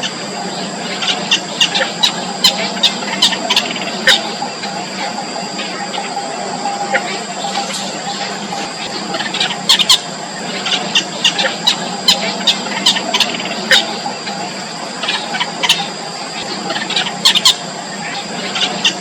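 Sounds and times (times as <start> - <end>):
high-pitched background whine: 0.0 - 19.0.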